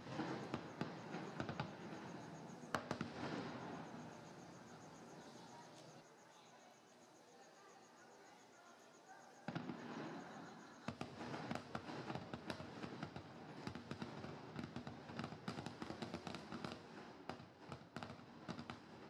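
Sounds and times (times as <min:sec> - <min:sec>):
fireworks bursts and bangs: 0:00.0 - 0:06.0, 0:09.3 - 0:19.0
fireworks crackle: 0:00.0 - 0:06.0, 0:09.4 - 0:19.0.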